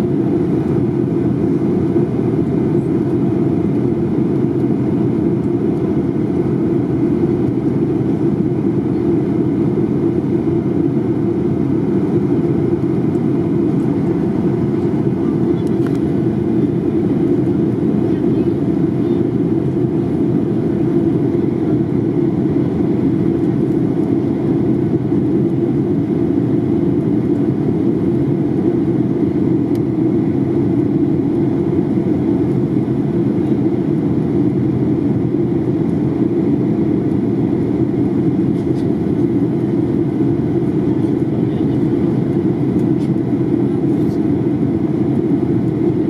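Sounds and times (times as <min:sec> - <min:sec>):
airplane cabin airflow and engines: 0:00.0 - 0:46.0.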